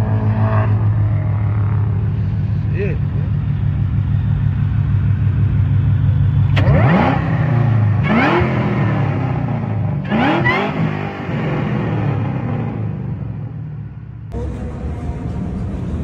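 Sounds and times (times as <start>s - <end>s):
car engine idling: 0.0s - 16.0s
car engine revving: 0.0s - 16.0s.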